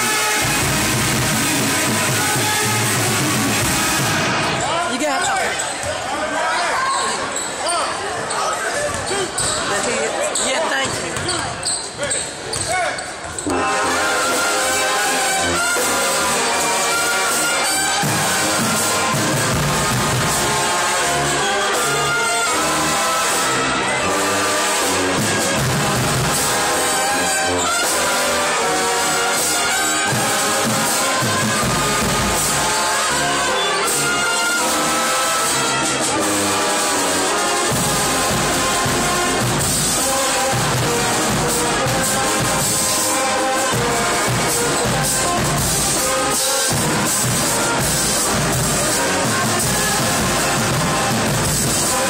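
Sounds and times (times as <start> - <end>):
tuba bass: 0.0 - 4.6, 13.5 - 52.0
brass sustaining chords: 0.0 - 4.7, 13.5 - 52.0.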